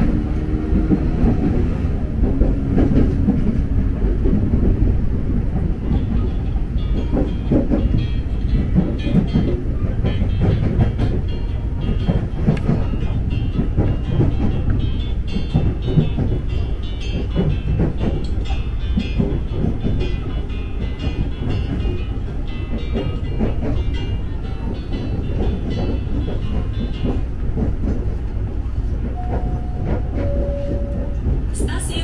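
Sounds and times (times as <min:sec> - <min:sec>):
electric train rumbling: 0:00.0 - 0:32.0
wheels clicking over rails: 0:00.0 - 0:32.0.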